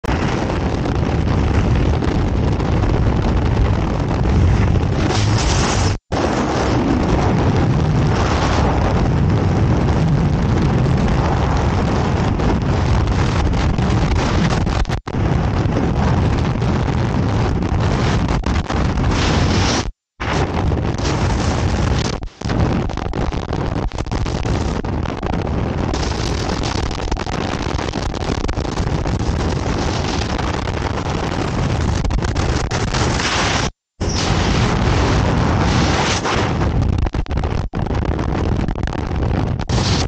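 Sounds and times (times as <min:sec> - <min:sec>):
wind roaring over microphone: 0:00.0 - 0:40.0.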